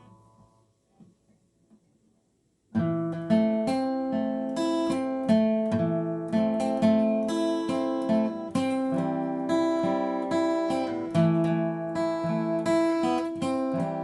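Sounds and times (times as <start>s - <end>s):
acoustic guitar arpeggio: 2.7s - 14.0s.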